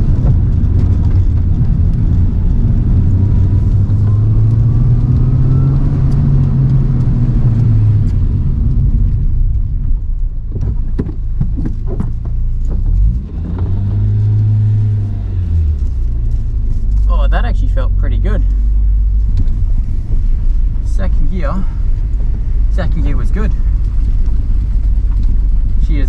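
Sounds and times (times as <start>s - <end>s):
car engine pulling under load: 0.0s - 25.9s.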